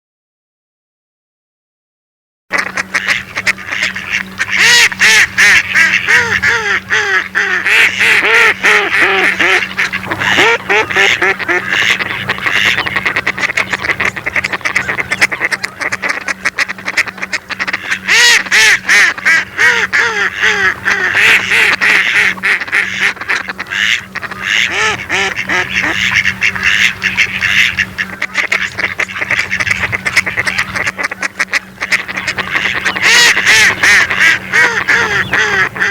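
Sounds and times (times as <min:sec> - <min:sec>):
ducks quacking: 0:02.5 - 0:35.9
steady low hum: 0:02.5 - 0:35.9.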